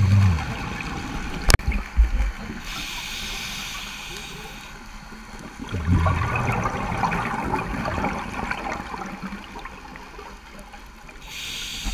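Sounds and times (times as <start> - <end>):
underwater bubbles gurgling: 0.0 - 11.8.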